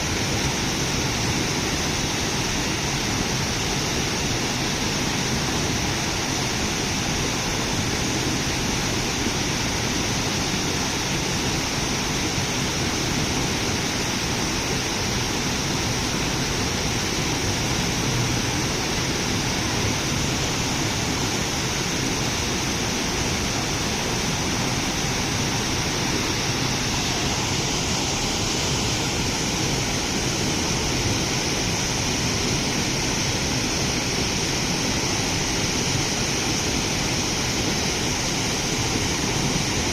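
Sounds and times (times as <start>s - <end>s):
high even hiss: 0.0s - 39.9s
steady rushing noise: 0.0s - 39.9s.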